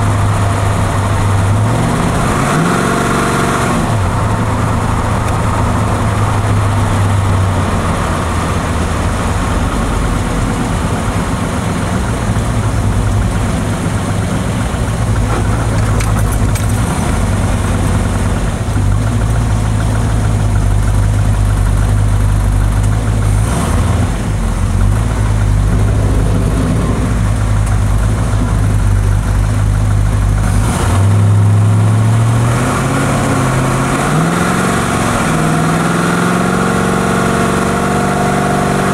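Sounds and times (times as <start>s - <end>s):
car engine idling: 0.0s - 32.4s.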